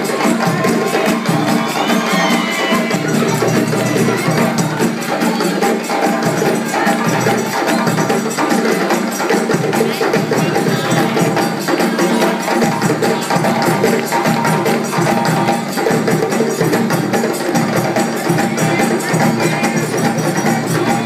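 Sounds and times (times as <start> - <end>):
djembe hand drums: 0.0 - 21.0.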